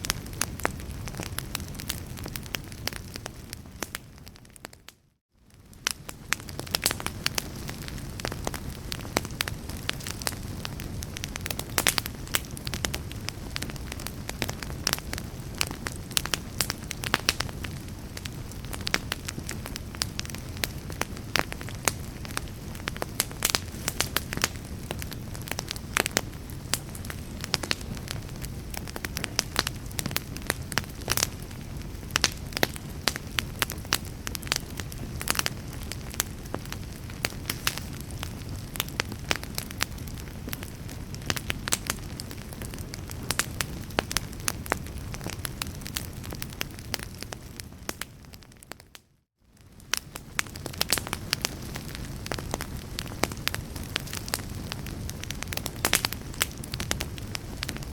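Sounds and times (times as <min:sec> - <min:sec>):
fireplace fire crackling: 0:00.0 - 0:57.9.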